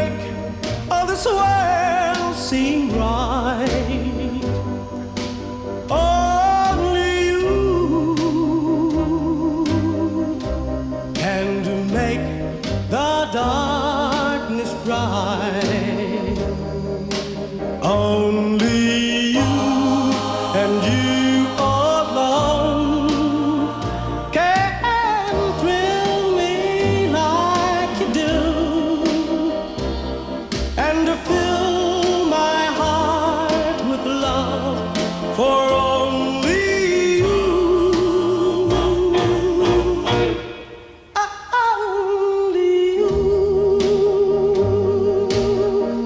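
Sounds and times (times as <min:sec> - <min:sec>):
song with vocals and beat: 0:00.0 - 0:46.0.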